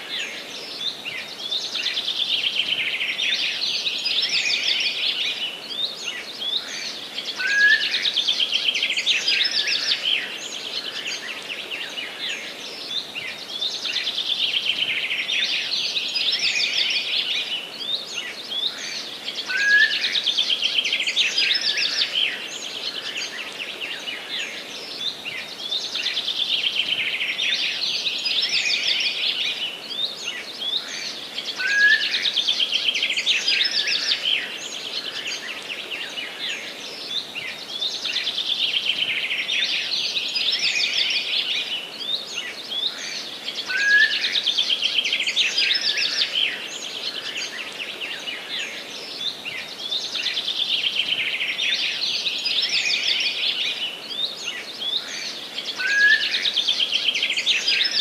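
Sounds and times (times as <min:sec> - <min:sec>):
faint background hiss: 0:00.0 - 0:58.0
songbirds twittering: 0:00.0 - 0:58.0.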